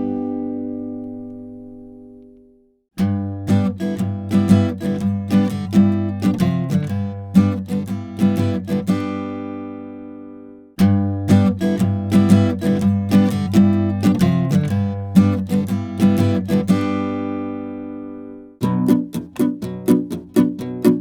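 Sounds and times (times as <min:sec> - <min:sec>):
acoustic guitar strumming: 0:00.0 - 0:02.1, 0:03.0 - 0:21.0.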